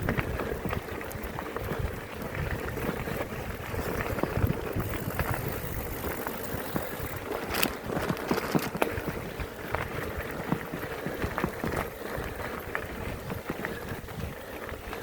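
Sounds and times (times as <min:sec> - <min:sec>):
bicycle tyre noise: 0:00.0 - 0:15.0
bike knocking and rattling: 0:00.0 - 0:15.0
wind buffeting microphone: 0:00.0 - 0:15.0.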